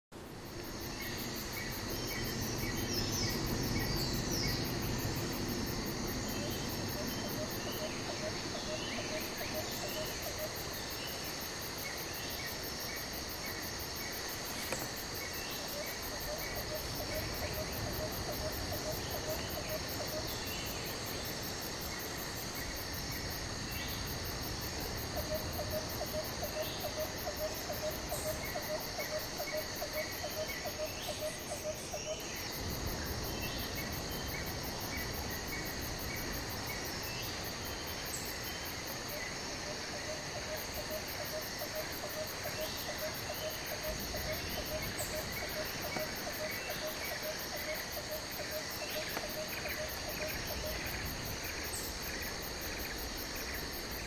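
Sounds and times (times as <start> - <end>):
insects chirring drone: 0.1 - 54.0
low pulsing insect trill: 0.2 - 54.0.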